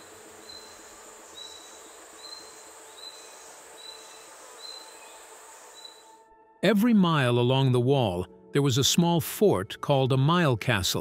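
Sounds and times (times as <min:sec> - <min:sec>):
steady outdoor hiss: 0:00.0 - 0:09.2.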